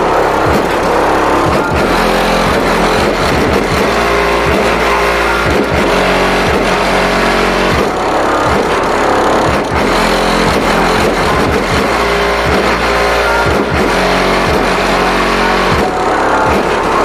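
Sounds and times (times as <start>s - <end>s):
bass-heavy music from car subwoofers: 0.0s - 17.0s.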